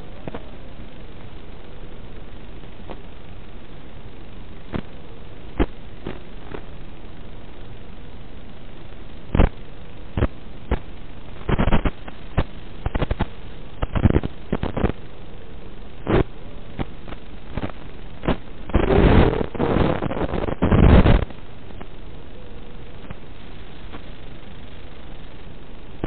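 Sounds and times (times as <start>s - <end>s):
static hiss: 0.0s - 26.0s
loud crackles: 1.1s - 7.7s, 8.9s - 15.1s, 15.8s - 26.0s.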